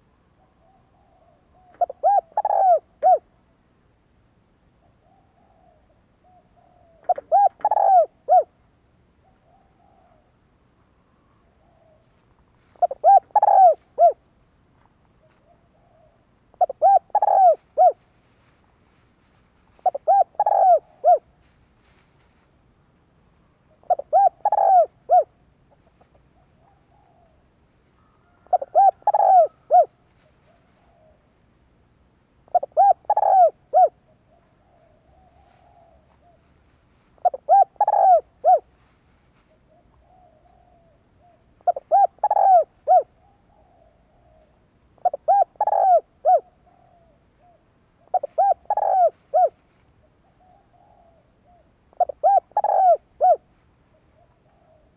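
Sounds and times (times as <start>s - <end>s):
dove cooing: 0.0s - 3.4s, 4.8s - 8.6s, 9.2s - 10.4s, 11.2s - 14.2s, 15.2s - 18.6s, 19.4s - 22.4s, 23.4s - 31.4s, 32.4s - 54.9s.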